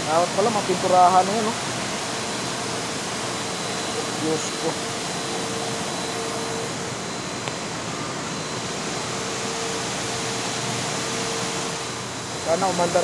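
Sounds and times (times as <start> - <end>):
condenser fans humming: 0.0 - 13.0.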